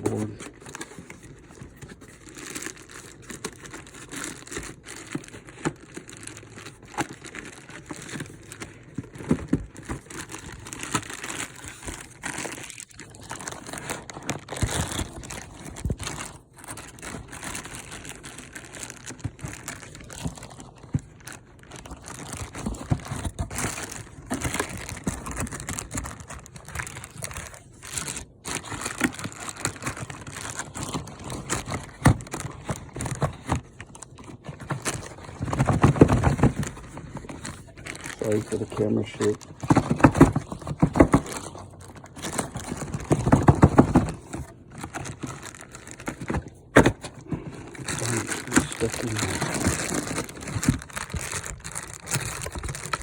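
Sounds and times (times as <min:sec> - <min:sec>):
cardboard rustling and tearing: 0:00.0 - 0:53.0.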